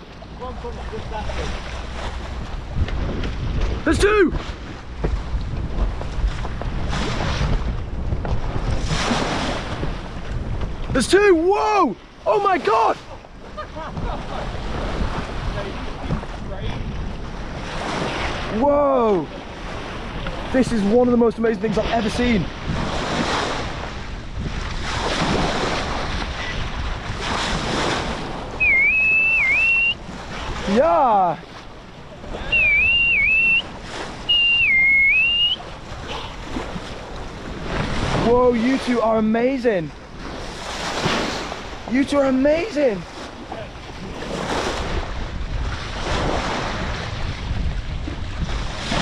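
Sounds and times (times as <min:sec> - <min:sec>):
low wind rumble on microphone: 0:00.0 - 0:12.3, 0:13.0 - 0:49.0
sea water rushing along bow: 0:00.0 - 0:49.0.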